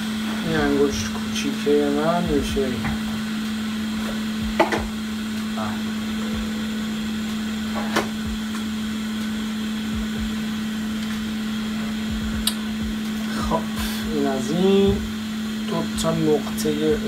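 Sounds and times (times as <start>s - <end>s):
small motor humming: 0.0s - 17.0s.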